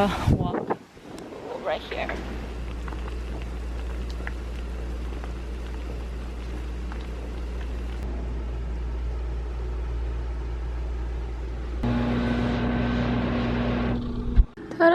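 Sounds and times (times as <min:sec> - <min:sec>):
city traffic rumble: 0:00.0 - 0:12.8.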